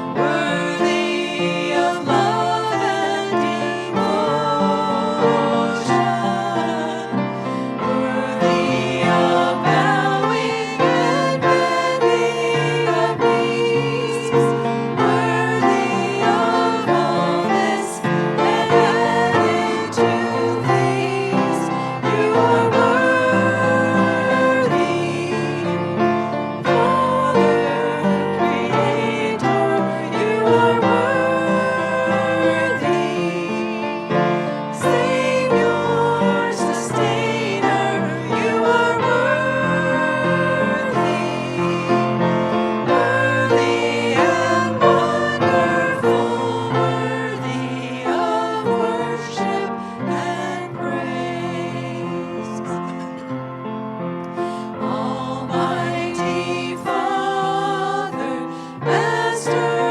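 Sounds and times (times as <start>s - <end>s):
instrumental accompaniment: 0.0s - 59.9s
people singing worship song: 0.0s - 59.9s.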